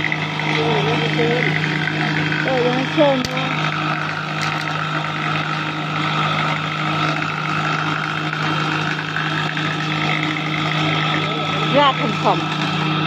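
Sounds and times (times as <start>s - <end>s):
wood planing machine running: 0.0s - 13.0s.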